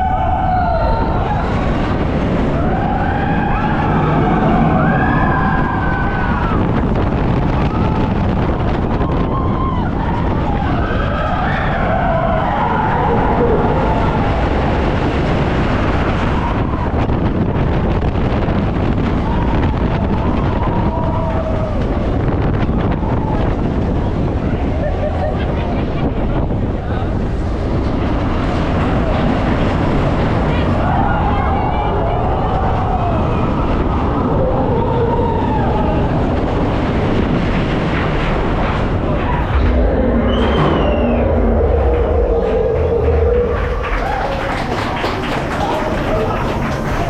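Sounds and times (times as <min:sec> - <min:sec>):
loud steady rushing noise: 0:00.0 - 0:47.0.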